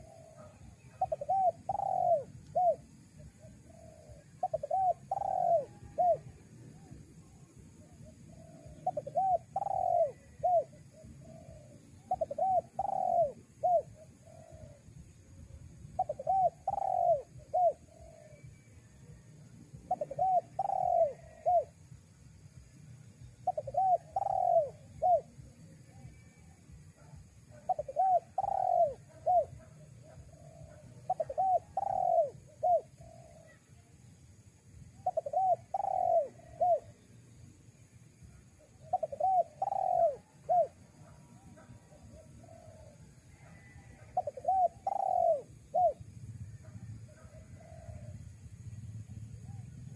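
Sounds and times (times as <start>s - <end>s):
dove cooing: 0.0s - 15.1s, 15.9s - 19.2s, 19.8s - 21.8s, 23.4s - 33.7s, 35.0s - 37.0s, 38.2s - 49.9s.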